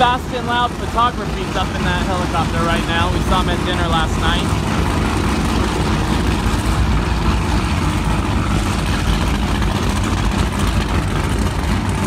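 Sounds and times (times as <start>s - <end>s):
boat engines idling: 0.0s - 12.0s.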